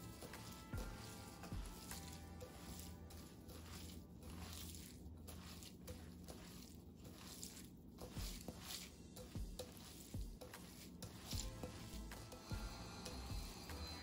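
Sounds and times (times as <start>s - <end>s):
wet squishing of noodles by hand: 0.0s - 12.7s.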